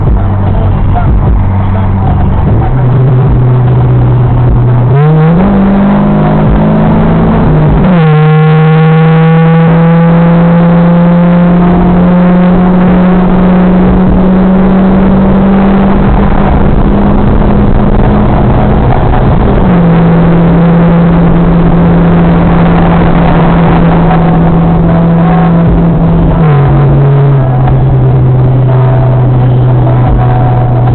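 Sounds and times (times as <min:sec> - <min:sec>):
car engine accelerating hard: 0:00.0 - 0:30.9.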